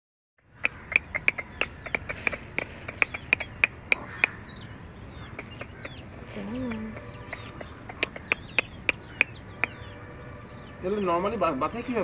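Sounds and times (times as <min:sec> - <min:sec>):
hen calling: 0:00.4 - 0:12.0
chicks peeping: 0:00.5 - 0:12.0.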